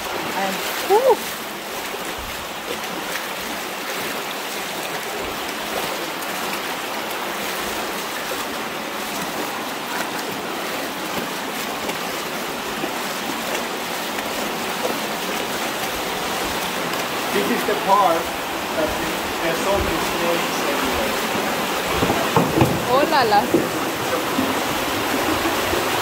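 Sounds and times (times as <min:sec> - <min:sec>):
river running over stones: 0:00.0 - 0:26.0.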